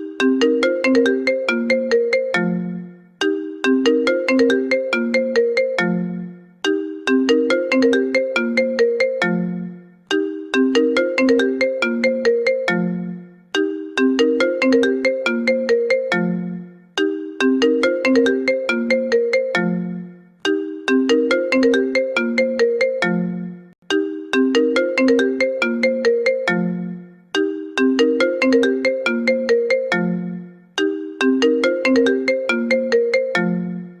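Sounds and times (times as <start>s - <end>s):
phone ringtone melody: 0.0s - 34.0s.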